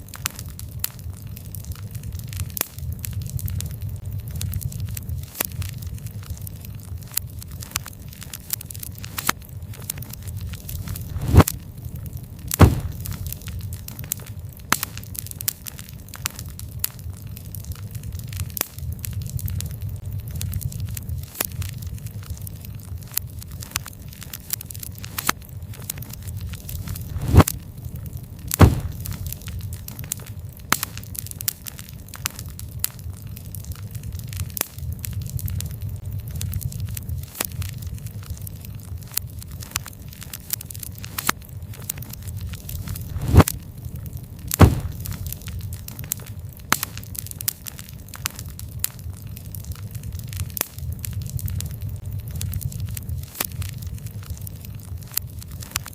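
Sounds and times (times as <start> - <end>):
campfire crackling and popping: 0.0 - 55.9
low rumble of burning: 0.0 - 55.9.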